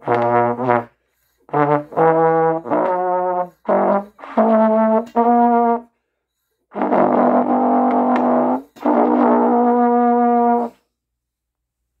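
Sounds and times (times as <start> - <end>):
brass instrument long notes: 0.0 - 5.9, 6.7 - 10.8.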